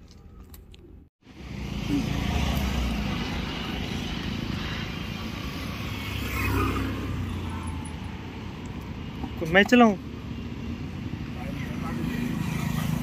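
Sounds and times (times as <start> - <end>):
passing traffic rumble: 0.5 - 13.0.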